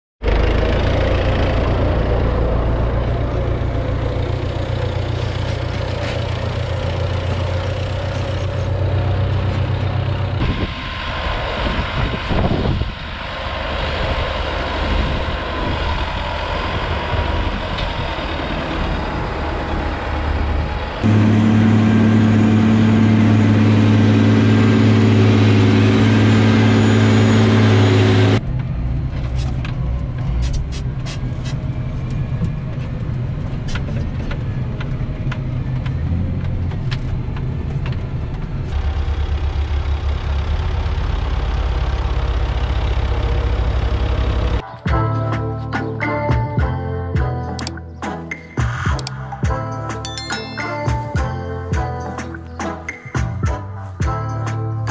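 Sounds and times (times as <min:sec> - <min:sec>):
forage harvester engine hum: 0:00.2 - 0:44.6
tractor engine running: 0:00.2 - 0:44.6
wheel loader diesel engine rumble: 0:00.2 - 0:44.6.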